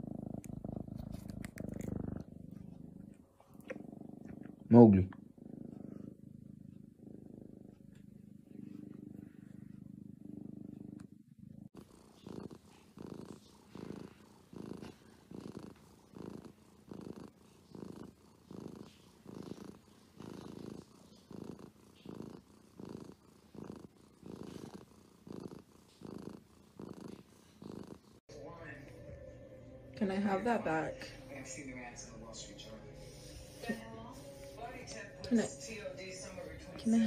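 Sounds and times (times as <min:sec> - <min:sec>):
kitten purring in pulses: 0:00.0 - 0:28.3, 0:30.2 - 0:37.0
kitten purring steadily: 0:00.0 - 0:29.2, 0:29.9 - 0:37.0.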